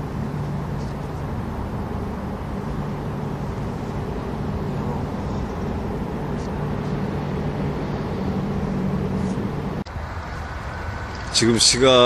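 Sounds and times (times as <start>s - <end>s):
faint humming tone: 0.0s - 9.9s
distant engines droning: 0.0s - 12.0s.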